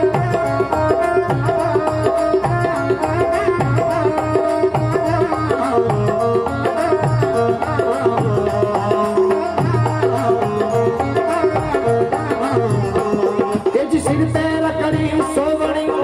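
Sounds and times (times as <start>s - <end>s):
dholak drum rhythm: 0.0s - 16.0s
keyboard melody: 0.0s - 16.0s.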